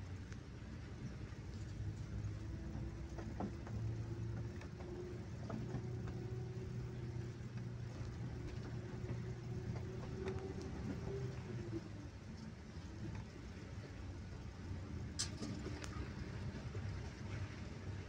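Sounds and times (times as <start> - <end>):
bus engine humming: 0.0 - 18.0.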